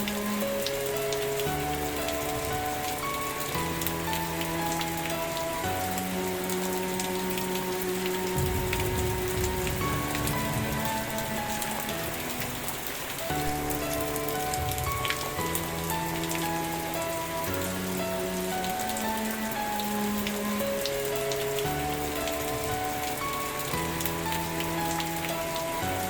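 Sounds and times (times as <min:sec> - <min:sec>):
raindrop clicks: 0:00.0 - 0:26.0
soft slow music: 0:00.0 - 0:26.0
steady rain: 0:00.0 - 0:26.0.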